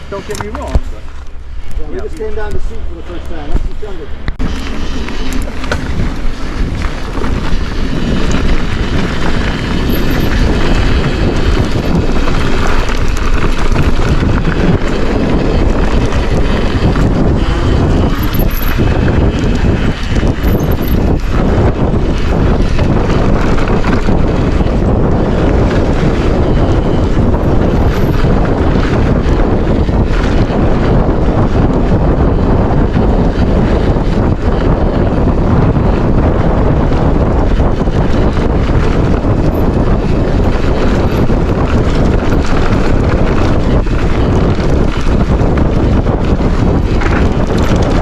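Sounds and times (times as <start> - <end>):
wind buffeting microphone: 0.0 - 48.0
bike knocks and rattles: 0.1 - 2.7, 3.5 - 48.0
tyre noise on dirt: 3.4 - 48.0.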